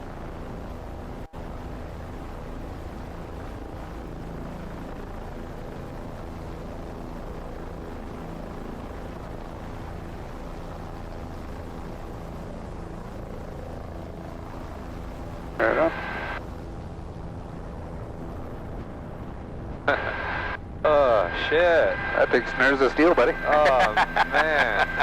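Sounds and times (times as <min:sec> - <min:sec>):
helicopter engine and rotor drone: 0:00.0 - 0:25.0.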